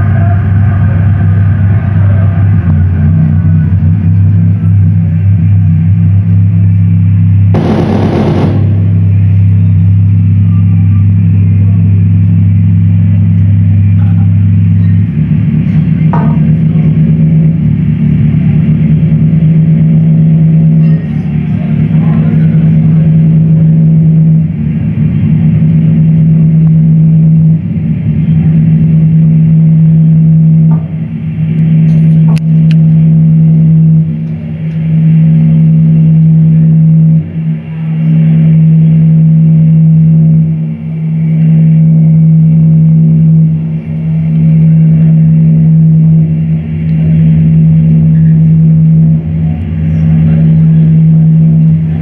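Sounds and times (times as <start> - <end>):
electronic noise music drone: 0.0 - 52.0.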